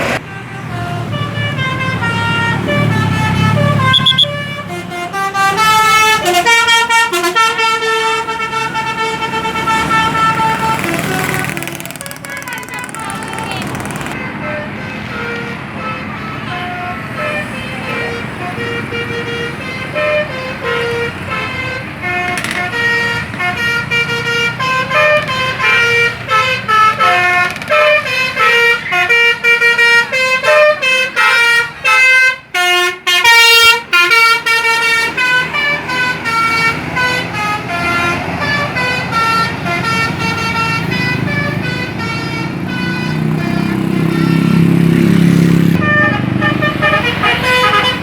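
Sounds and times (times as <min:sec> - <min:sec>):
bus engine: 0:00.0 - 0:48.0
multi-note bus air horn tune: 0:00.0 - 0:48.0.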